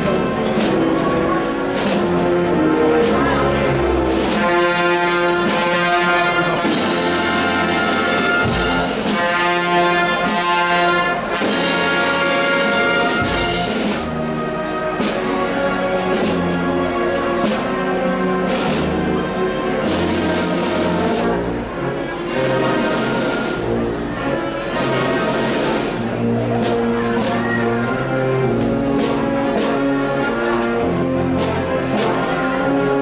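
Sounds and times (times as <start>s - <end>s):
brass and woodwind band march: 0.0s - 33.0s.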